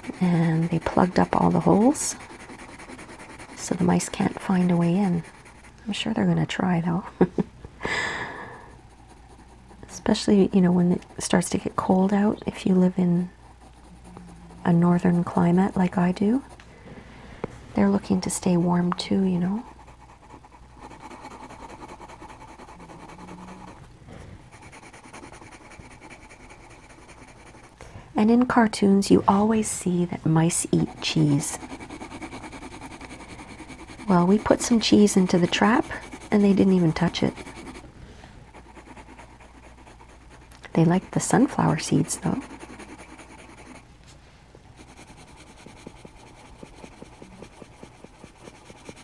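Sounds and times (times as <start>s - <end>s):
pencil shading on paper: 0.0s - 6.1s, 8.7s - 16.6s, 17.8s - 23.8s, 24.5s - 27.8s, 29.0s - 37.9s, 38.5s - 43.9s, 44.7s - 49.0s.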